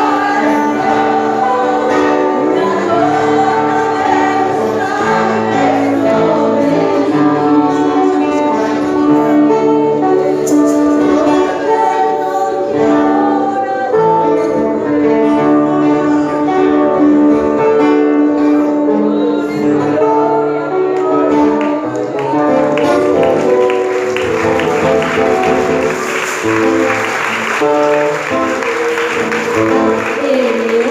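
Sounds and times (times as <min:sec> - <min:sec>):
group of voices singing: 0:00.0 - 0:17.5, 0:18.9 - 0:30.9.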